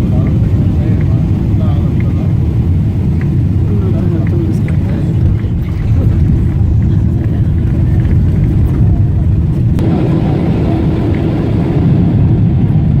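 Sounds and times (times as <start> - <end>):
engine and airflow rumble: 0.0 - 13.0.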